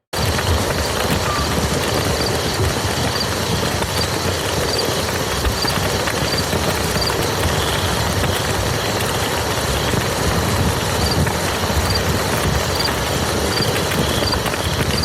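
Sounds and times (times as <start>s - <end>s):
rain falling on a field: 0.0s - 15.0s.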